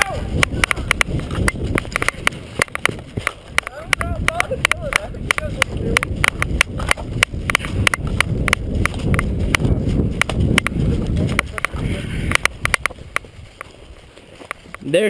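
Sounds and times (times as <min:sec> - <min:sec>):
sharp clicks: 0:00.0 - 0:13.7.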